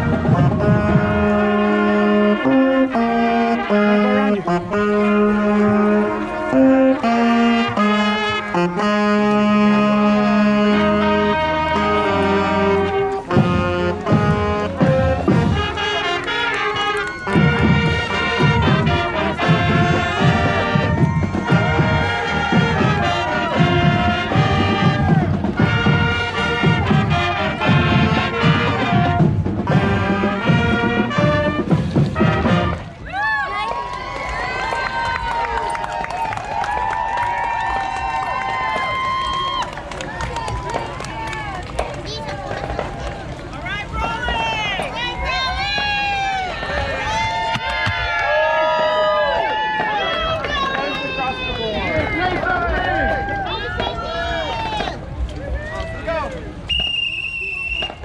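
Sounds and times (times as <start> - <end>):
marching band playing: 0.0 - 55.2.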